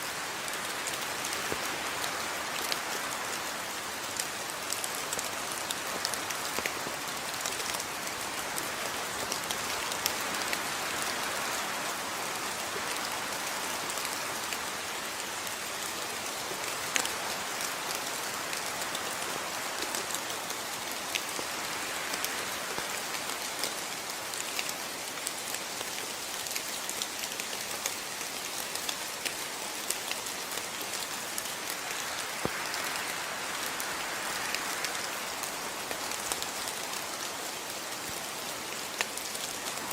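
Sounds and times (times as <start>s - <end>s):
steady rainfall hiss: 0.0s - 39.9s
raindrops ticking on a surface: 0.1s - 39.9s.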